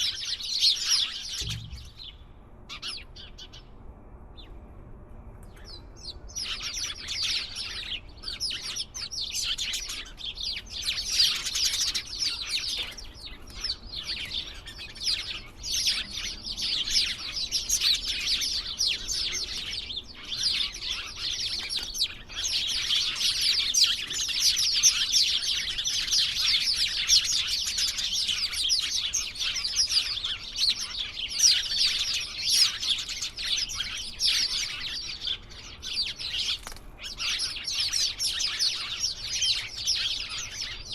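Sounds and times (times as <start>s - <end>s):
flock of small birds chirping: 0.0s - 3.7s, 5.4s - 40.9s.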